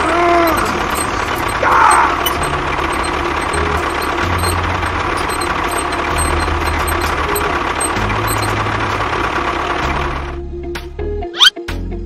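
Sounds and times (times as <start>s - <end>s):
engine running steadily: 0.0s - 10.9s.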